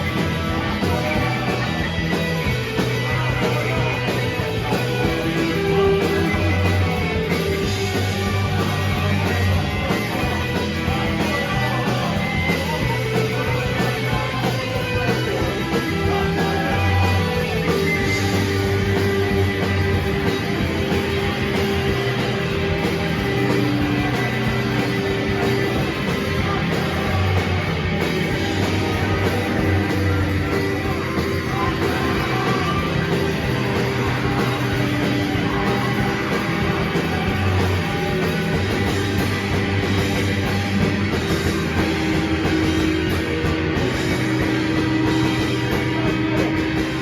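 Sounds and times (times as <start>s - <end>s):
rock band playing live: 0.0s - 47.0s.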